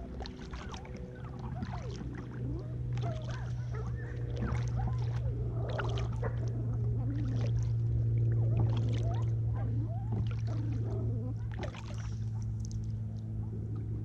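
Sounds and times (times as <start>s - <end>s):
kayak paddle strokes in water: 0.0s - 14.0s
steady low hum: 0.0s - 14.0s.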